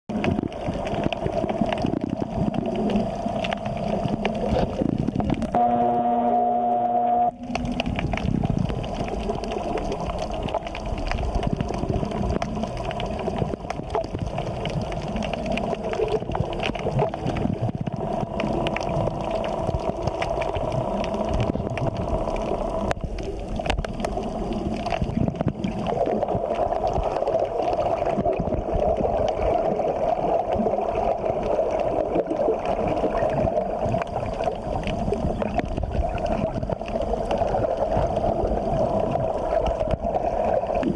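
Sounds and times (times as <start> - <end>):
underwater bubbly gurgling: 0.1 - 40.9.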